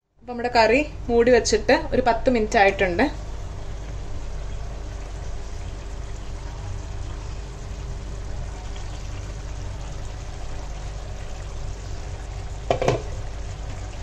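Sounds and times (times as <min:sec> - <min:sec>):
curry bubbling and sizzling: 0:02.6 - 0:14.0.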